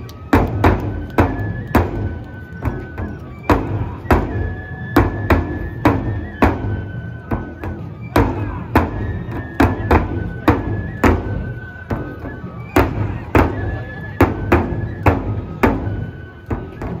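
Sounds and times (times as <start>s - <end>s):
bamboo flute long notes: 0.0s - 17.0s
large taiko drums: 0.0s - 17.0s.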